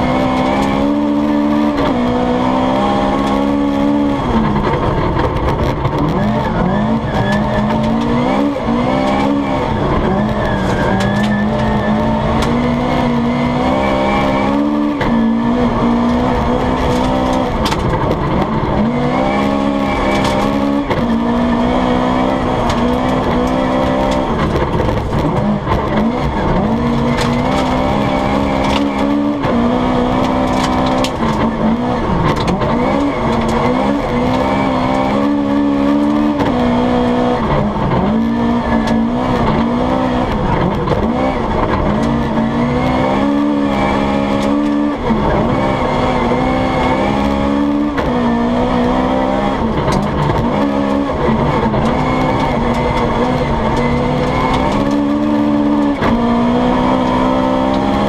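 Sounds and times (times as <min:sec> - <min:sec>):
rally car engine at full effort: 0:00.0 - 0:58.0
tyres rumbling on snowy road: 0:00.0 - 0:58.0.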